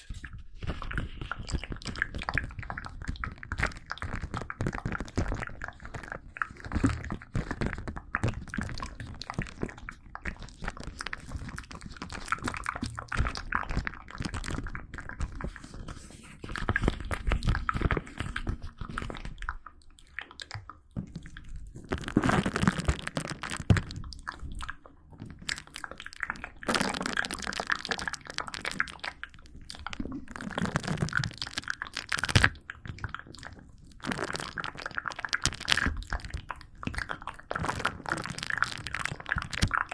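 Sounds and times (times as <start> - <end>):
crunching and mouth sounds: 0.0 - 39.9.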